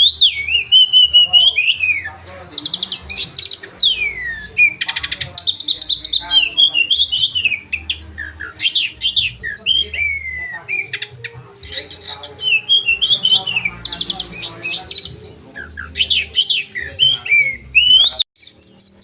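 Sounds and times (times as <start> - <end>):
bird singing varied song: 0.0 - 19.0.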